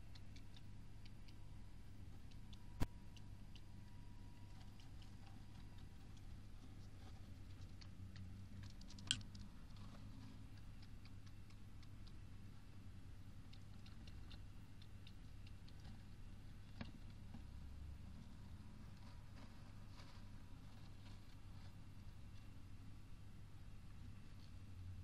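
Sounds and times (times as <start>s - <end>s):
hamster ticks and scratches: 0.0s - 25.0s
low steady hum: 0.0s - 25.0s.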